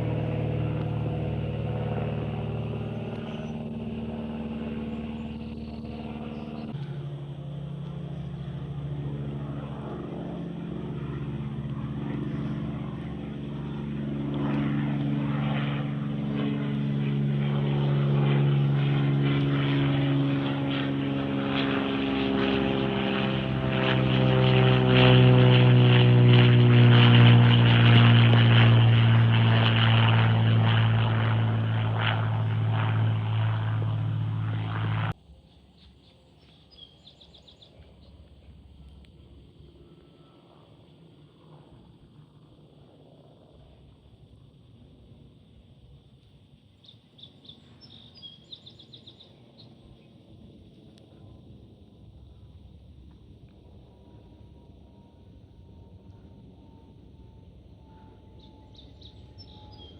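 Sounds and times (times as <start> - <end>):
propeller airplane flying past: 0.0 - 59.9.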